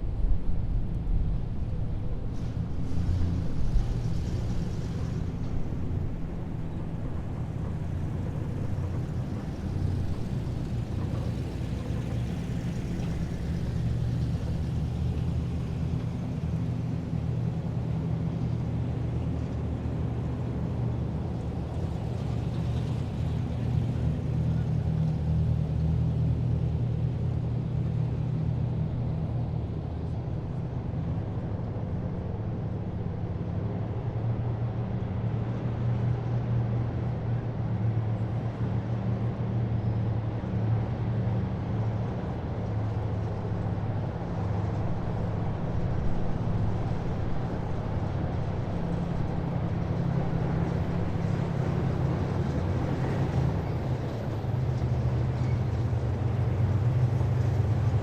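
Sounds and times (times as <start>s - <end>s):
heavy vehicle engines droning: 0.0s - 58.0s.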